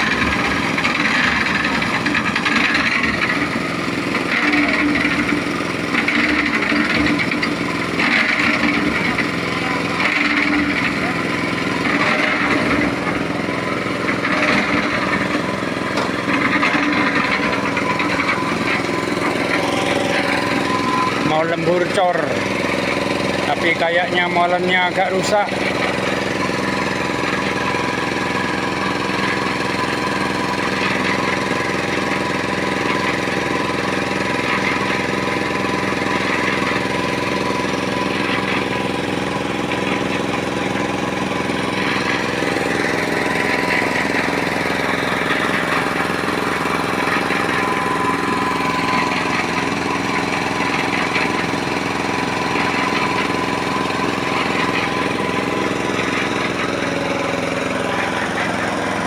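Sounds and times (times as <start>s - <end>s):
concrete mixer engine running: 0.0s - 59.0s.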